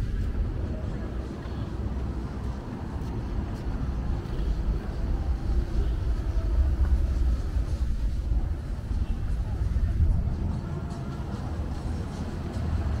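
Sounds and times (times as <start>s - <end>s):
street rumble: 0.0s - 13.0s.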